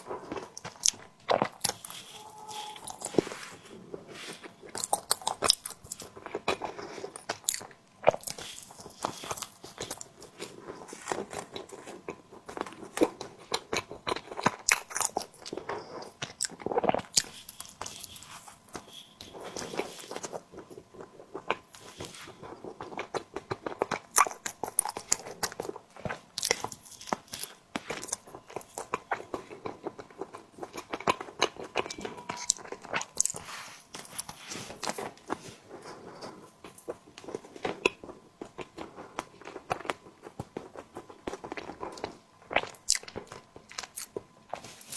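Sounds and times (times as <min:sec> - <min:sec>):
chewing and mouth clicks: 0:00.0 - 0:03.2, 0:04.6 - 0:35.4, 0:36.1 - 0:44.9.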